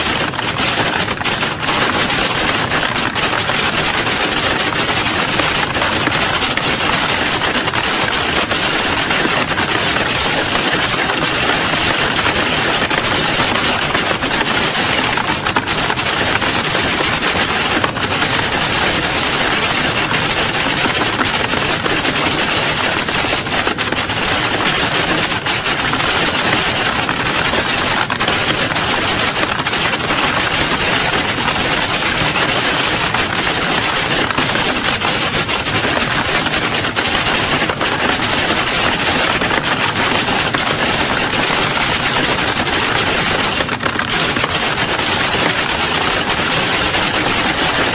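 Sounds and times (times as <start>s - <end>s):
many keyboards typing: 0.0s - 47.9s.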